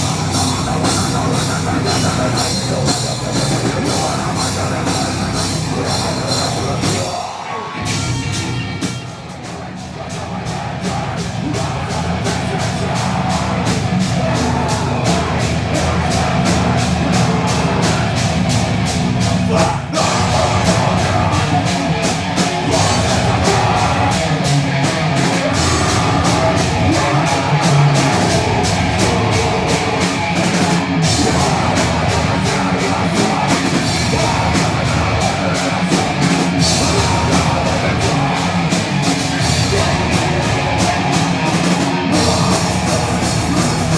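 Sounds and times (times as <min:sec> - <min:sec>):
harsh screamed vocals: 0:00.0 - 0:43.9
heavy metal band playing: 0:00.0 - 0:43.9
rapid cymbal and drum hits: 0:00.0 - 0:43.9.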